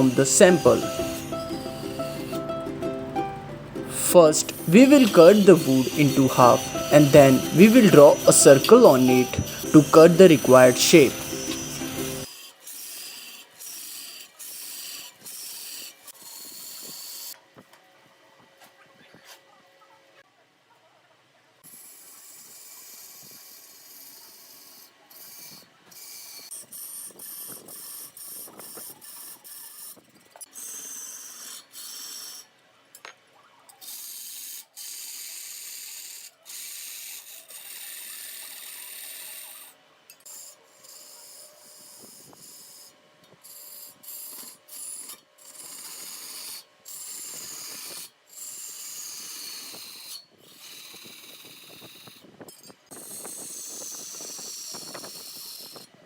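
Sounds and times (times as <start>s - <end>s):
tool rasping on wood: 0.0s - 2.7s, 4.2s - 17.4s, 21.7s - 32.5s, 33.8s - 52.2s.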